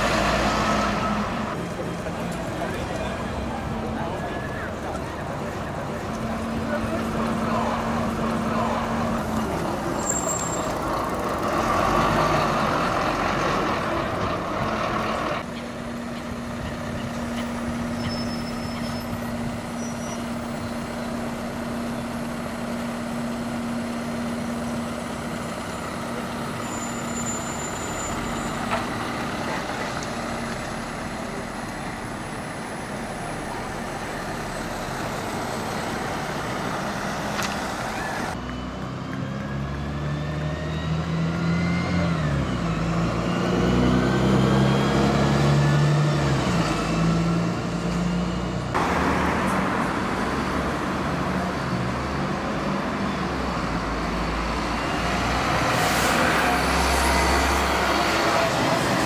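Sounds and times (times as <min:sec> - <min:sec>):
bus engines humming: 0:00.0 - 0:59.0
bus moving slowly: 0:00.0 - 0:59.0.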